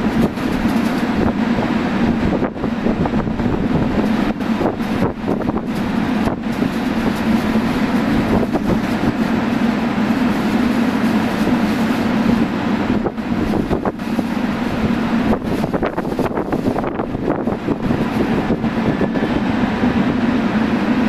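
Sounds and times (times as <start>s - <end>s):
train equipment humming: 0.0s - 21.0s.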